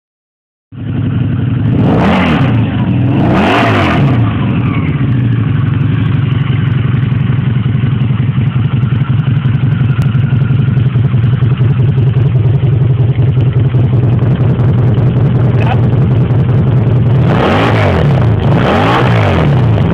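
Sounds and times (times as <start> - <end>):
motorcycle engine idling: 0.8 - 19.9
motorcycle throttle revs: 0.8 - 19.9.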